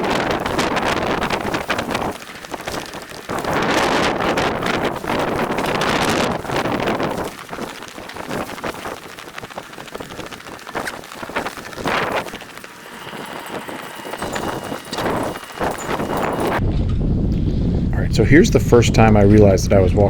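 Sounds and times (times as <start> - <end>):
blizzard wind buffeting microphone: 0.0 - 20.0.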